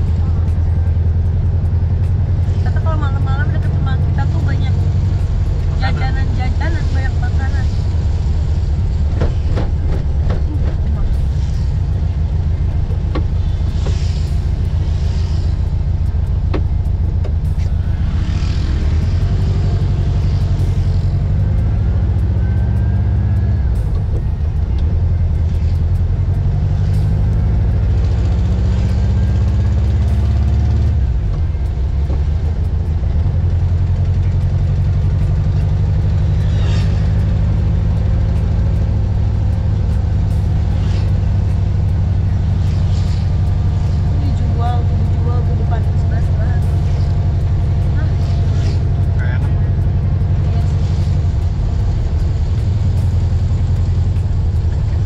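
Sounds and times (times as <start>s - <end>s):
car engine accelerating: 0.0s - 55.0s
road rumble inside car: 0.0s - 55.0s.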